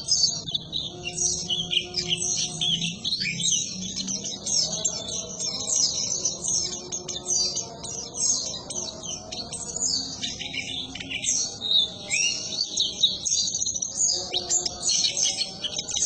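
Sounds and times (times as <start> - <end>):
bird twittering chirps: 0.0 - 16.0.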